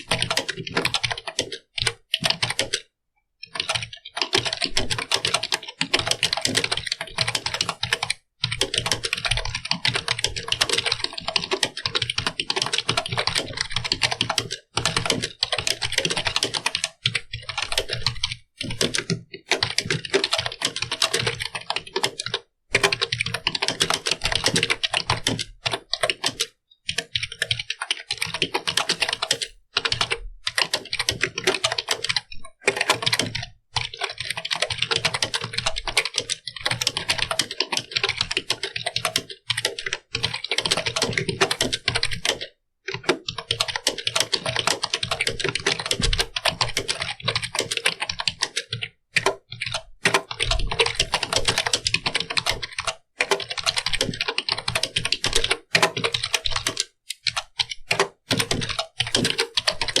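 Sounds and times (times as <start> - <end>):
fast typing on a keyboard: 0.0 - 60.0.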